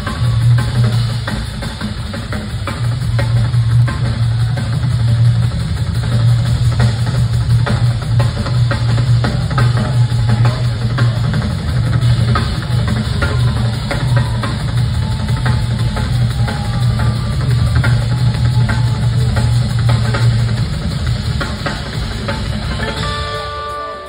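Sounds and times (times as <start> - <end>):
drum kits playing: 0.0 - 24.0.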